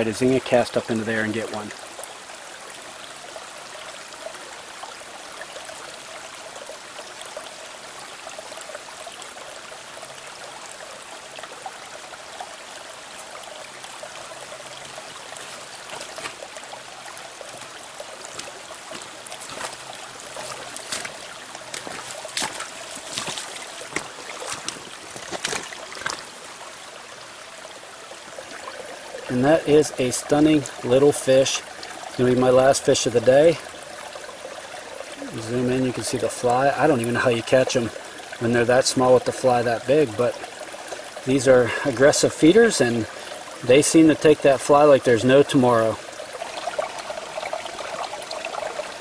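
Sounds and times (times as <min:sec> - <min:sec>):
stream flowing over stones: 0:00.0 - 0:49.0.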